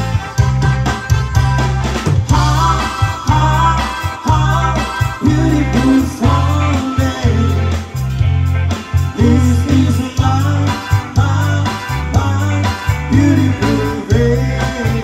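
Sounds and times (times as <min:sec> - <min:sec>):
drum kit: 0:00.0 - 0:15.0
electric bass: 0:00.0 - 0:15.0
electric guitar: 0:00.0 - 0:15.0
keyboard: 0:00.0 - 0:15.0.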